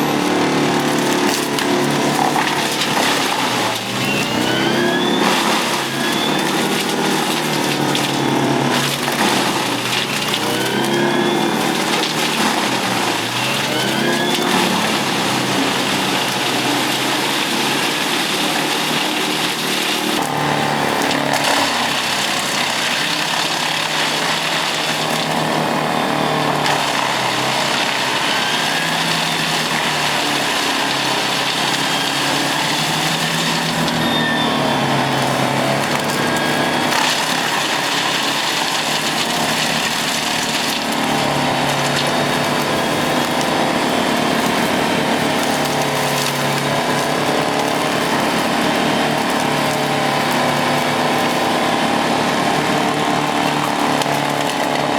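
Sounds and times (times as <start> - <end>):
wood chipper engine: 0.0 - 54.9
wood grinding and shredding: 0.0 - 54.9.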